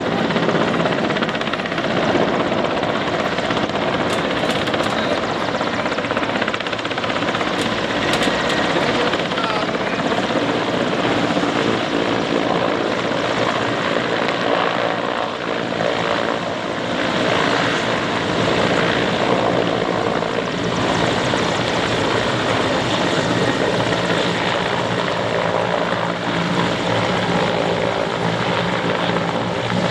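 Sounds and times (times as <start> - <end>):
helicopter turbine and rotor: 0.0 - 29.9.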